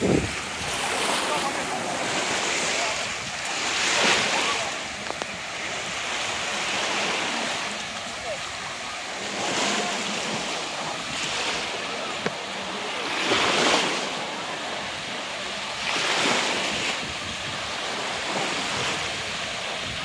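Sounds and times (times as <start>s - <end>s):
waves breaking on a beach: 0.0s - 20.0s
wind blowing across microphone: 0.0s - 20.0s.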